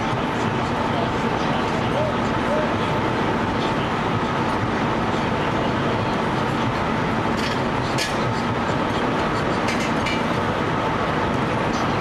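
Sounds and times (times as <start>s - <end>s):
steam fire engine pumping: 0.0s - 12.0s.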